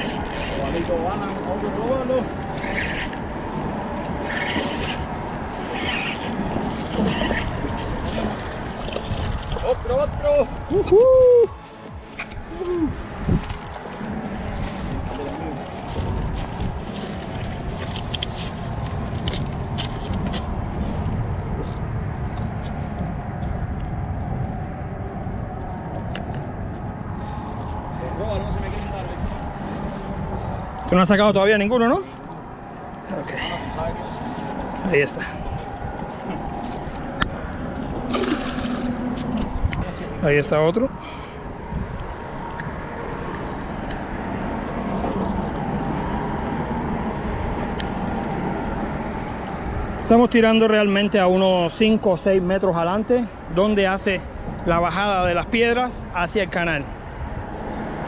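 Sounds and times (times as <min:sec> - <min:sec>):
road traffic hum: 0:00.0 - 0:58.0
wind buffeting microphone: 0:00.0 - 0:58.0.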